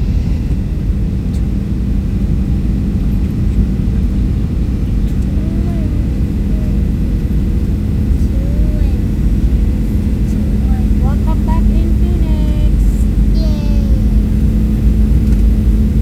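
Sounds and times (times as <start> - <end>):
airliner engine and airflow rumble: 0.0 - 16.0
constant hum: 0.0 - 16.0.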